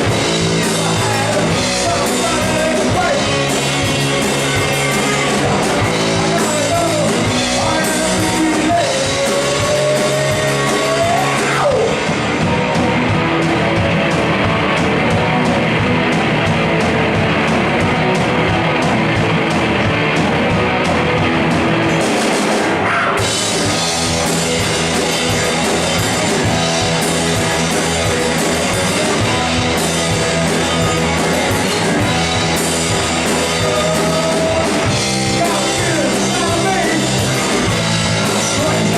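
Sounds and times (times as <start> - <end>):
bass guitar: 0.0 - 38.9
distorted electric guitars: 0.0 - 38.9
pounding drum kit: 0.0 - 38.9.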